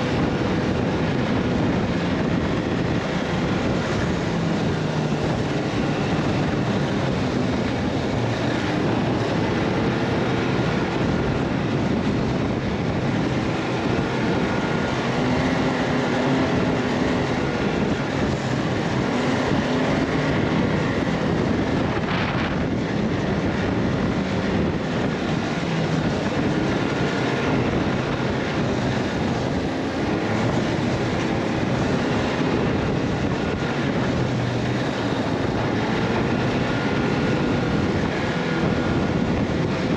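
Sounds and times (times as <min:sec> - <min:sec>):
vehicle engine running: 0:00.0 - 0:39.9
wind and road noise: 0:00.0 - 0:39.9.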